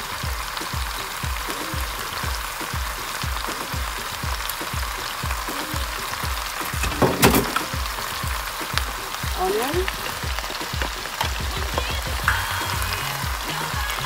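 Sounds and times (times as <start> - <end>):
background music with bass beat: 0.0 - 14.0
food sizzling in oil: 0.0 - 14.0.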